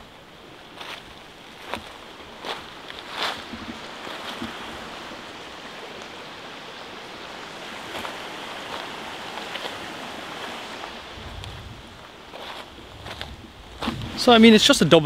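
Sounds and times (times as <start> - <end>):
river water pouring over weir: 0.0 - 15.0.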